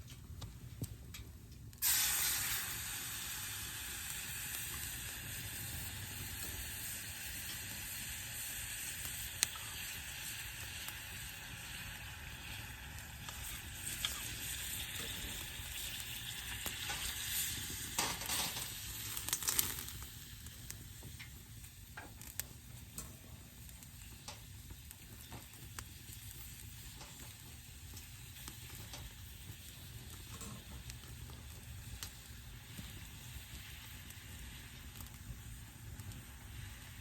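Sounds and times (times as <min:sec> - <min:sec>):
food sizzling: 0:01.8 - 0:37.0.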